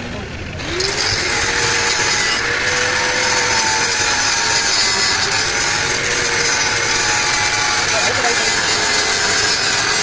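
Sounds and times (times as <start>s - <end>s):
electric power tool running: 0.4s - 10.0s.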